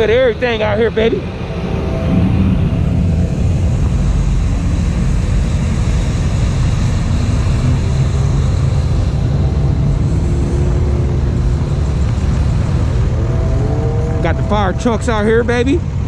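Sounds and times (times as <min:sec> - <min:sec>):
car engine rumbling driving by: 0:00.0 - 0:16.0.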